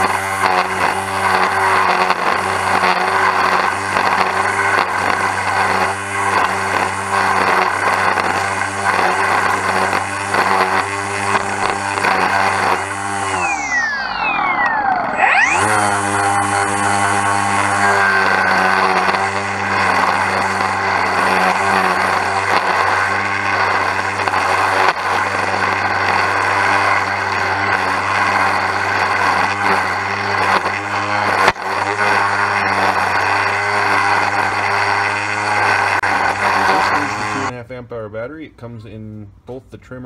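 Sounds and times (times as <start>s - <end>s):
string trimmer cutting grass: 0.0s - 37.5s.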